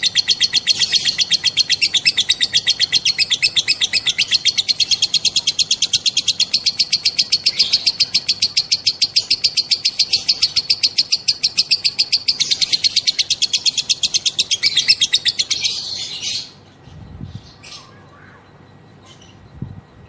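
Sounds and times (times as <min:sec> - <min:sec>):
lovebird chattering trill: 0:00.0 - 0:20.0.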